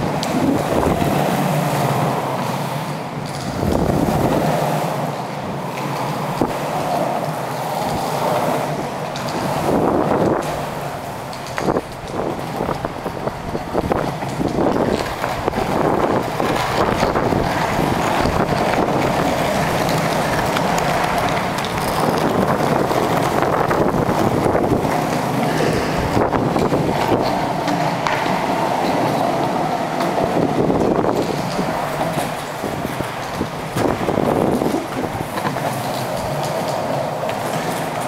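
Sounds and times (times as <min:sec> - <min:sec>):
wind on microphone: 0:00.0 - 0:02.3, 0:03.2 - 0:05.2, 0:06.2 - 0:38.0
skateboard wheels rolling on concrete: 0:00.0 - 0:38.0.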